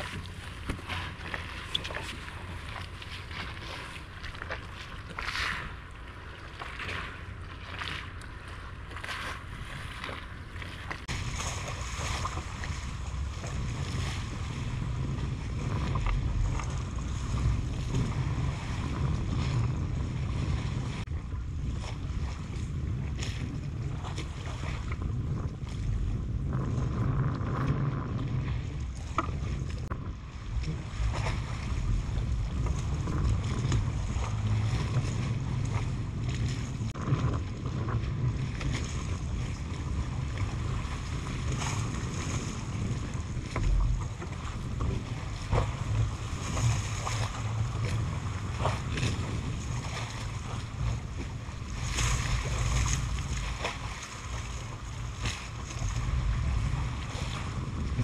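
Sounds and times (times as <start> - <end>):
water lapping: 0.0 - 58.0
wind rumbling on microphone: 0.0 - 58.0.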